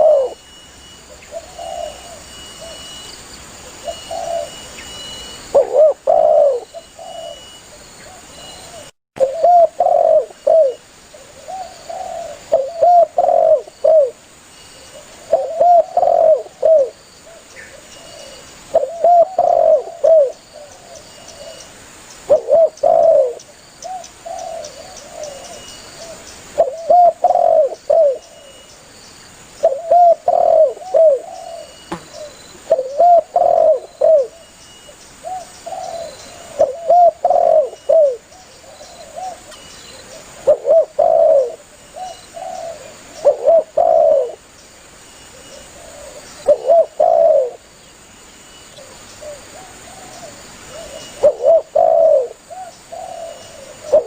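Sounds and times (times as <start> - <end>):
dove cooing: 0.0 - 0.4, 1.1 - 2.8, 3.7 - 4.8, 5.5 - 14.2, 14.9 - 21.7, 22.3 - 28.6, 29.6 - 34.5, 35.2 - 44.4, 45.3 - 47.6, 48.8 - 54.0.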